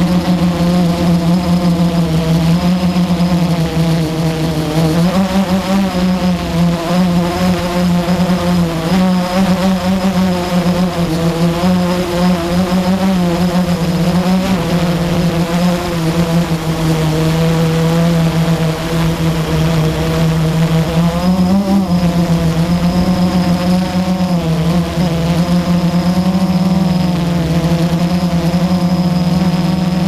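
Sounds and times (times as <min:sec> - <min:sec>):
quadcopter motors buzzing: 0:00.0 - 0:30.0.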